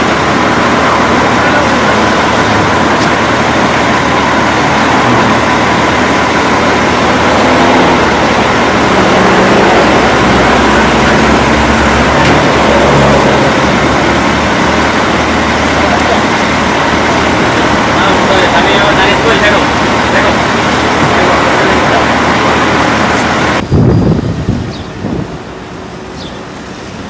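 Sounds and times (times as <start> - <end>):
loud even noise: 0.0 - 24.6
bus engine idling: 0.0 - 27.0.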